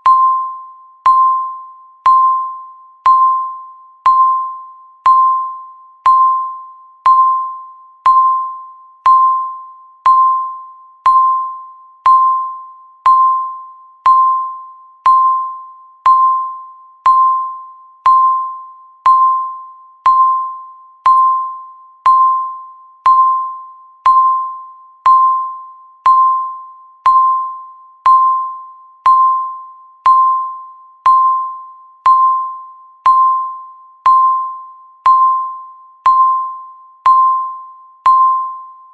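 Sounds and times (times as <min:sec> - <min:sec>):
countdown timer beeping: 0:00.0 - 0:38.9.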